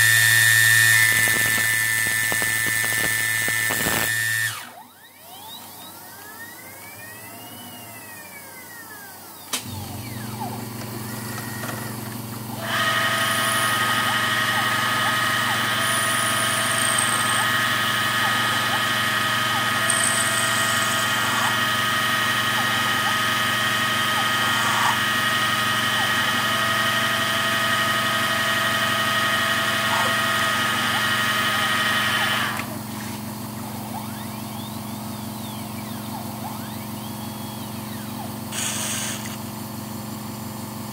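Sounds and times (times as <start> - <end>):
motor whine rising and falling: 0.0 - 40.9
spindle motor humming: 0.0 - 40.9.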